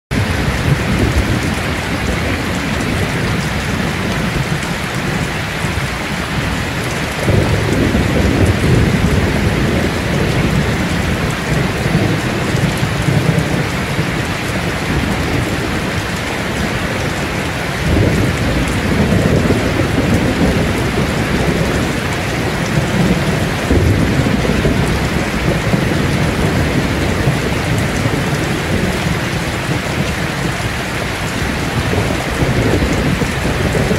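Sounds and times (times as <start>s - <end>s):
heavy rain on a metal roof: 0.1s - 33.9s
thunder rumbling: 0.1s - 33.9s.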